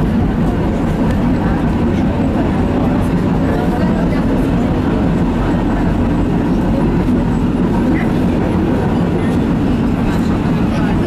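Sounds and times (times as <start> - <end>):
tram wheels and motors running: 0.0 - 11.0.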